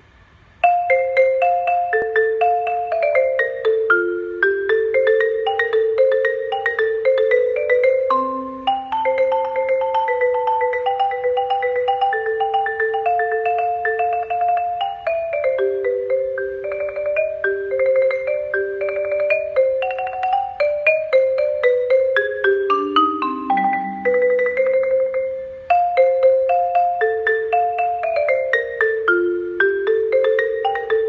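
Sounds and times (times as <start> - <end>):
marimba melody with rolls: 0.6 - 31.0.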